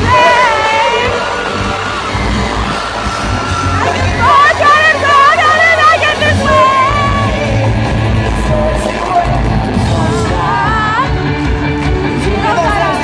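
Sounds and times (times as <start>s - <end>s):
crowd yelling: 0.0s - 13.0s
live pop-rock band: 0.0s - 13.0s.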